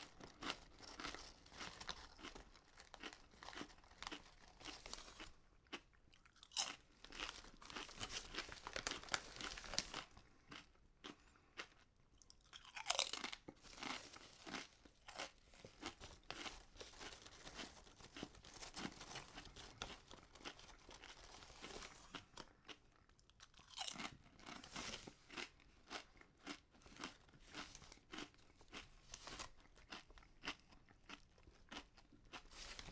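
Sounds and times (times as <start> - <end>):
potato chips crunching: 0.0 - 32.9.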